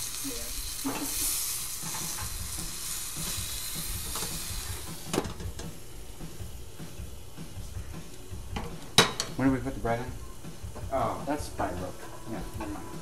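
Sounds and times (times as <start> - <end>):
food sizzling in a skillet: 0.0 - 13.0.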